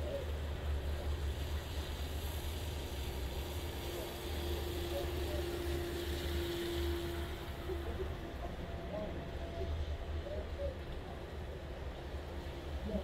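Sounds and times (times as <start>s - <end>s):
rain and tyres hissing on wet road: 0.0s - 13.0s.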